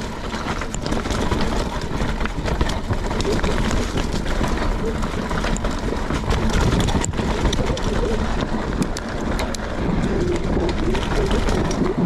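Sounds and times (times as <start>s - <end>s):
bike rattling: 0.0s - 12.0s
bike tyres on rock: 0.0s - 12.0s
wind buffeting microphone: 0.0s - 12.0s.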